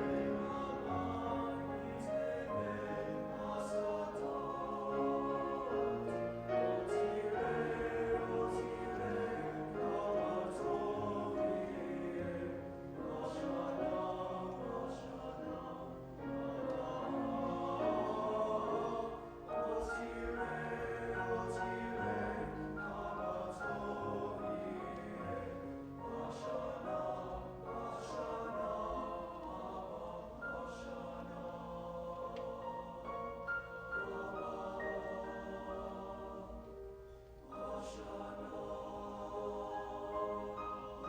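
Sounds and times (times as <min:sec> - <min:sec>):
choir singing sustained notes: 0:00.0 - 0:41.0.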